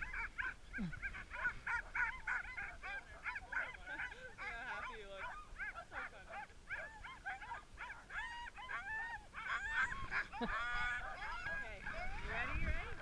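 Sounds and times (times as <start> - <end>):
dogs whining and yelping: 0.0 - 13.0.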